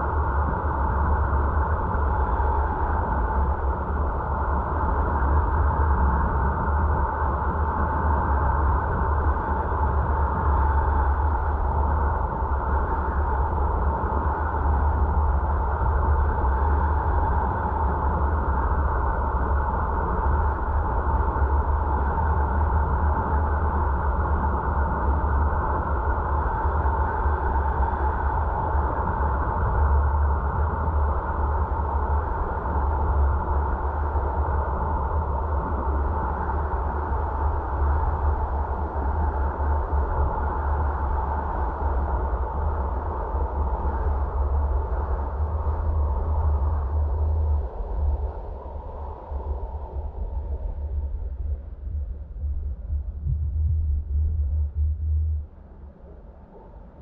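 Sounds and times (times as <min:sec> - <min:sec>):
car road and wind noise: 0:00.0 - 0:56.2.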